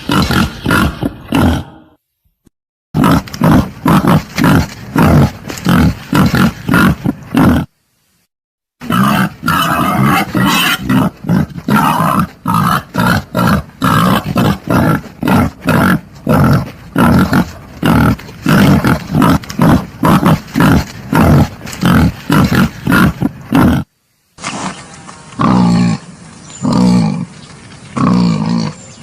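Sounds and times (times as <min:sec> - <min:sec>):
wild boar grunting and squealing: 0:00.0 - 0:02.0, 0:03.0 - 0:07.7, 0:08.8 - 0:23.9, 0:25.4 - 0:27.4, 0:28.0 - 0:29.0.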